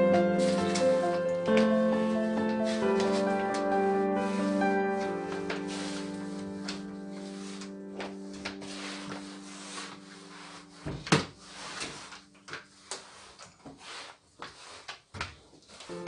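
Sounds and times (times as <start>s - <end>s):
mop knocking and scuffing floor: 0.2s - 16.0s.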